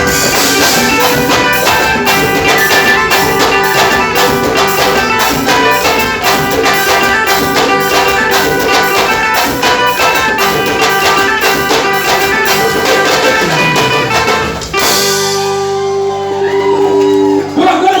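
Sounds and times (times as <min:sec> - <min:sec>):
drums beating: 0:00.0 - 0:17.2
brass band playing: 0:00.0 - 0:17.4.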